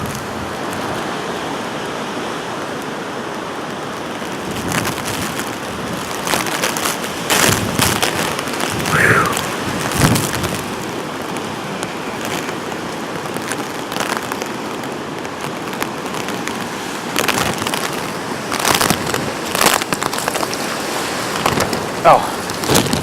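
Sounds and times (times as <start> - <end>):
heavy rain: 0.0 - 23.0
strong wind: 0.0 - 23.0.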